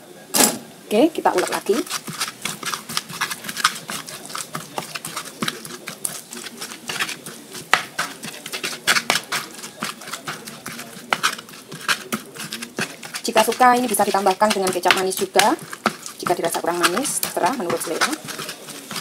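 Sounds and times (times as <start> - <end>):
stone pestle grinding in mortar: 1.4 - 19.0.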